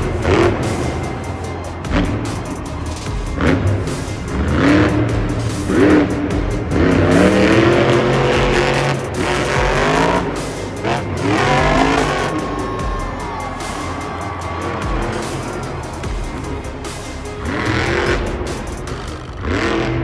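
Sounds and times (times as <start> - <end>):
monster truck engine revving: 0.0 - 20.0
music playing: 0.0 - 20.0.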